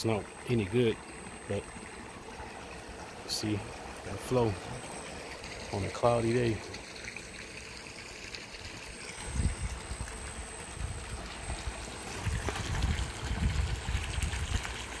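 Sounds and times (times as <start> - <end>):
water pouring into a pool: 0.0 - 15.0.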